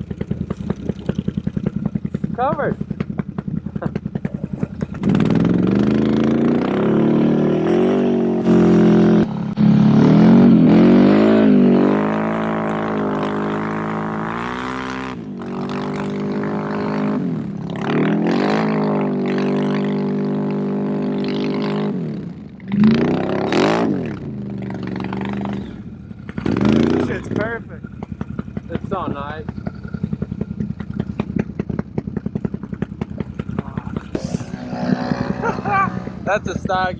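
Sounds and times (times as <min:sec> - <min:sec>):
atv engine revving: 0:00.0 - 0:36.9.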